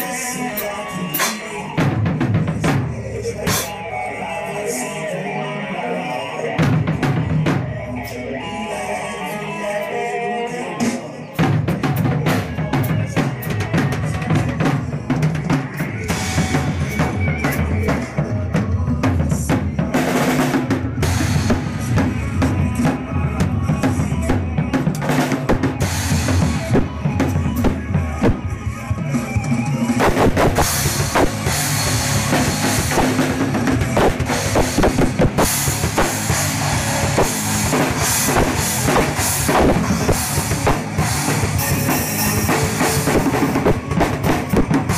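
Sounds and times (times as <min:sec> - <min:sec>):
drum kit playing fast: 0:00.0 - 0:03.9, 0:06.6 - 0:08.1, 0:10.8 - 0:44.9.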